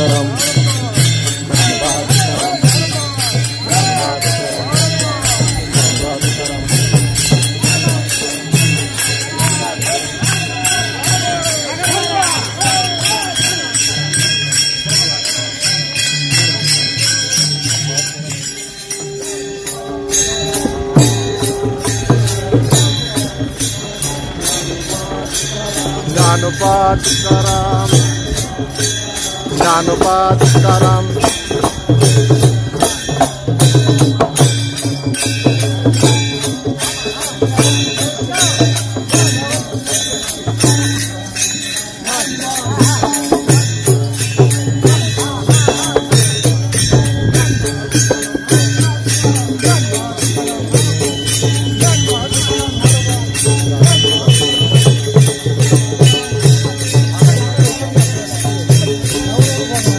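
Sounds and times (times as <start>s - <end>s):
hand cymbals clashing: 0.0s - 59.9s
voices chanting: 0.0s - 59.9s.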